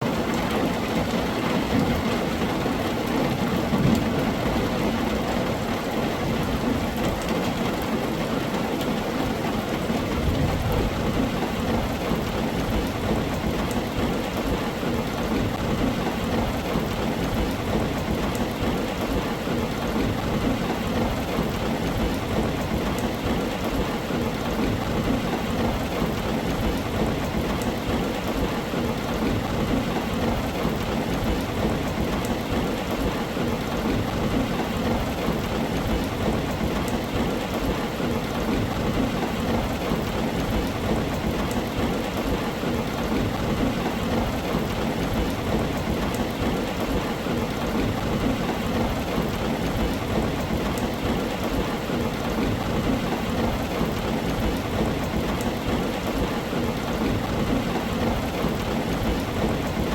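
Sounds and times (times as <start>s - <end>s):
heavy rain on a tin roof: 0.0s - 59.9s
thunder rumbles: 0.1s - 8.0s, 9.0s - 59.9s.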